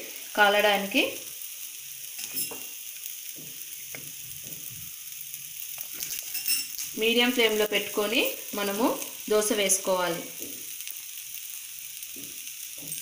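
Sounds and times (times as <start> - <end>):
oil sizzling on a hot pan: 0.0 - 13.0.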